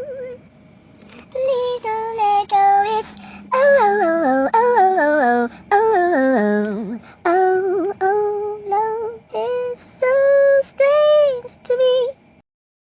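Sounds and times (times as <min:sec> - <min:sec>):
high voice singing wordless melody: 0:00.0 - 0:00.4, 0:01.1 - 0:12.3.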